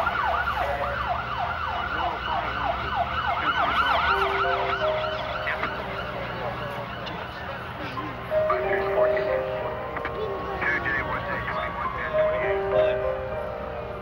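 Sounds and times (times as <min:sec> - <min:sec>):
ambulance siren yelping: 0:00.0 - 0:14.0.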